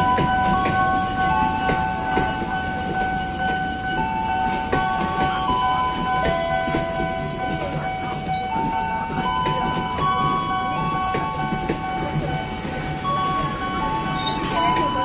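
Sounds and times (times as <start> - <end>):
train rumbling past: 0.0 - 15.0
train wheels clicking on rails: 0.0 - 15.0.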